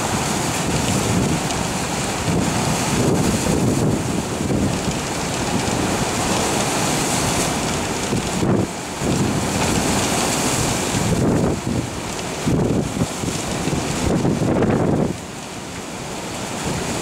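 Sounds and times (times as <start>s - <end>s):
wind buffeting microphone: 0.0s - 15.4s
heavy surf breaking: 0.0s - 17.0s.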